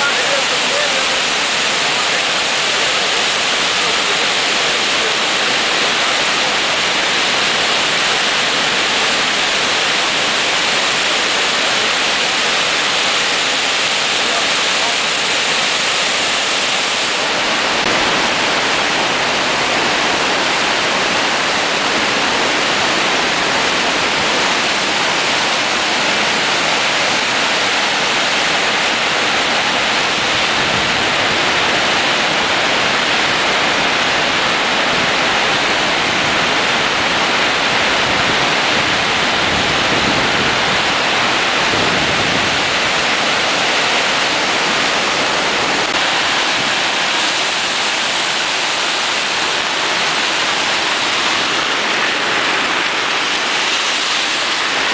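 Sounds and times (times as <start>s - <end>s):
river rushing: 0.0s - 54.9s.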